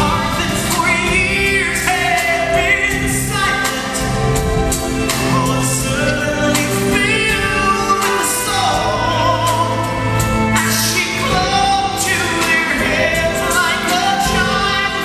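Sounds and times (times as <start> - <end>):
instrumental accompaniment: 0.0 - 15.0
man singing a ballad: 0.0 - 15.0.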